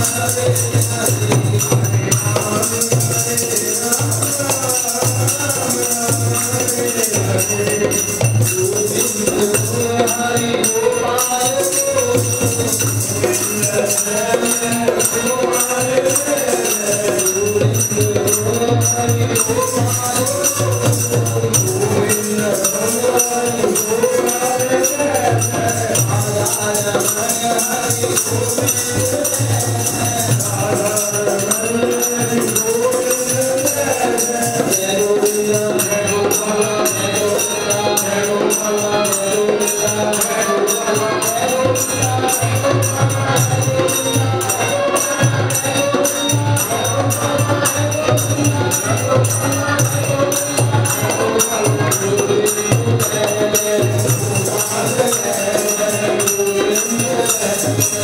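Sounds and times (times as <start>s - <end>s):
group singing: 0.0s - 58.0s
jingling hand percussion: 0.0s - 58.0s.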